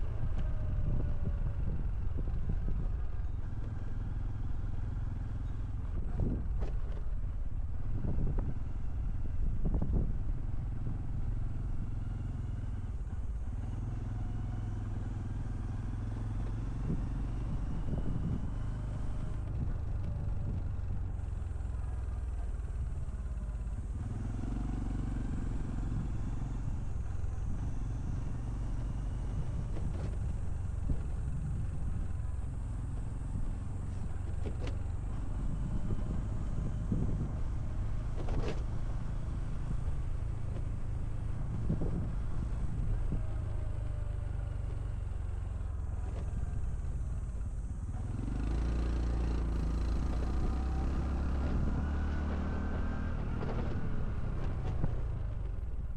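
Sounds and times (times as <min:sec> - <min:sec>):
motorcycle engine while riding: 0:00.0 - 0:55.9.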